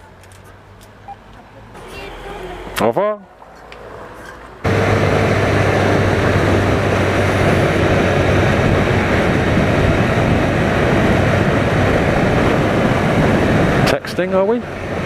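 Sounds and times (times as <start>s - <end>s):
car engine hum: 0.0s - 15.0s
wind and road noise: 0.0s - 15.0s.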